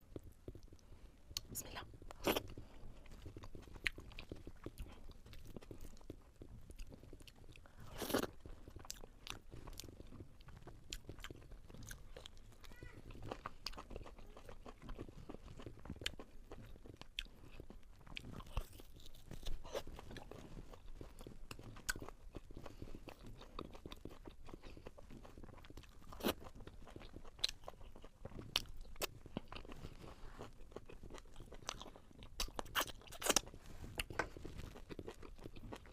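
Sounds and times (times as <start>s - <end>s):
person crunching food: 1.4s - 35.9s.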